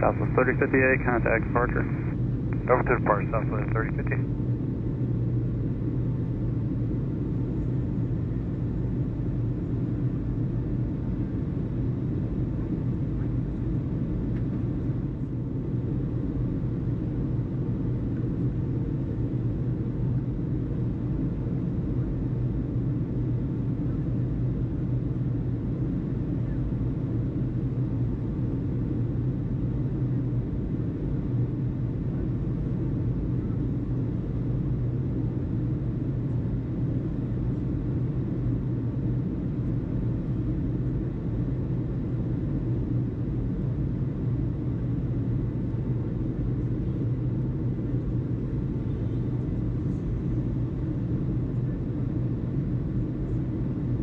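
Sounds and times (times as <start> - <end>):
low rumble with hum: 0.0 - 54.0.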